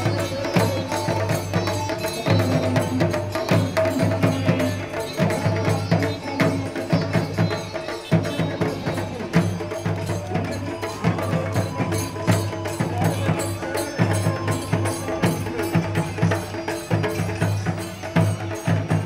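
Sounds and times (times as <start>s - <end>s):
drums beating fast rhythm: 0.0s - 19.0s.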